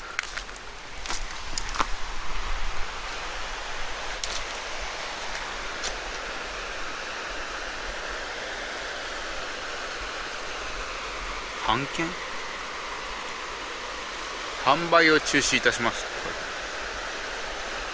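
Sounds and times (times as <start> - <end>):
stream rushing: 0.0 - 17.9.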